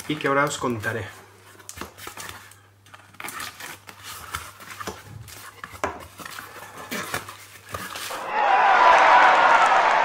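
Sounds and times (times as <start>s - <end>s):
packing tape rustling: 0.0s - 8.2s.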